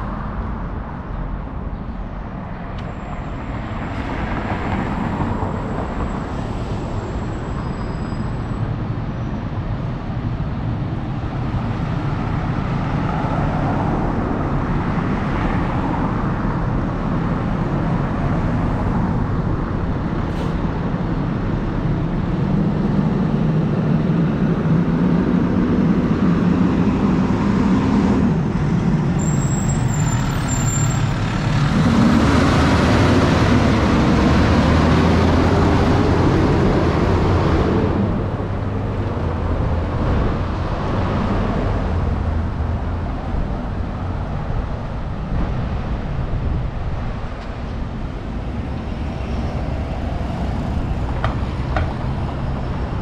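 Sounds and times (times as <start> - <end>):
heavy engine hum: 0.0 - 53.0
vehicle engines passing: 0.0 - 53.0.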